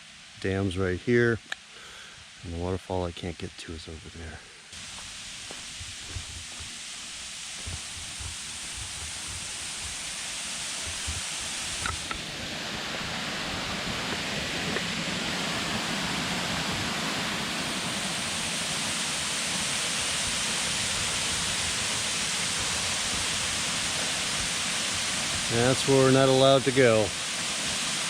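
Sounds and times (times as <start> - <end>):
water rushing over a dam: 4.8 - 28.0.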